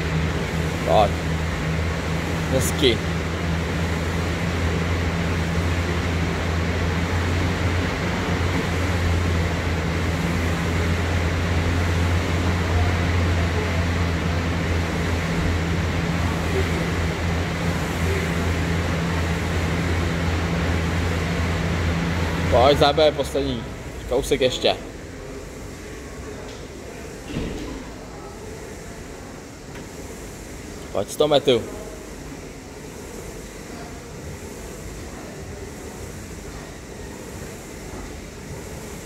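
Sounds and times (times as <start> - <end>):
fan flywheel whirring: 0.0 - 39.0.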